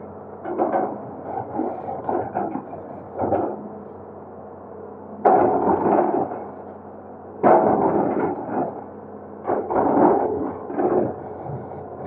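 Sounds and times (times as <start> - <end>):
excavator engine hum: 0.0 - 12.0.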